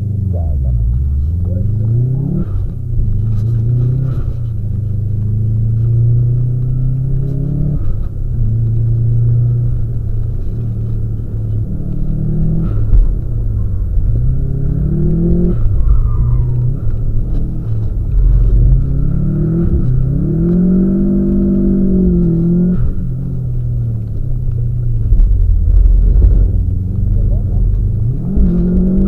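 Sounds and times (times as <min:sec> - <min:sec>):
car engine revving under load: 0:00.0 - 0:29.0.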